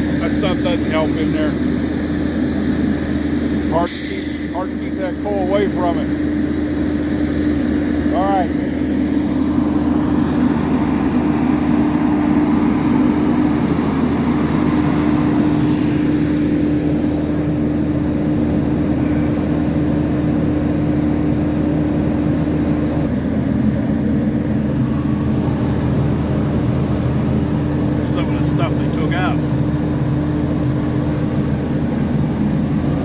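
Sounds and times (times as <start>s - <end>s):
diesel truck engine running: 0.0s - 33.0s
hydraulic hum: 0.0s - 33.0s.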